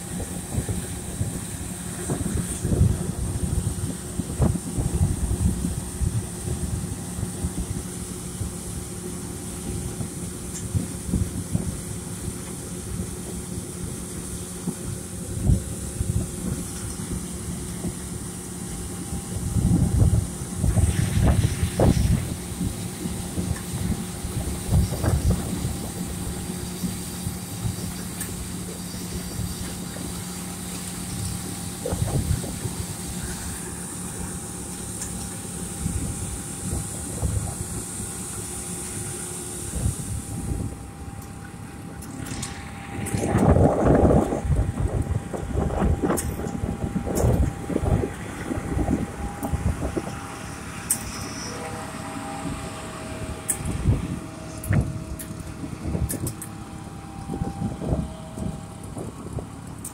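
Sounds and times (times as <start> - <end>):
wind buffeting microphone: 0.0 - 34.4, 35.5 - 38.4, 39.6 - 41.2, 41.9 - 50.7, 51.7 - 59.9
combine harvester mechanical hum: 0.0 - 59.9
low rumbles: 0.0 - 59.9.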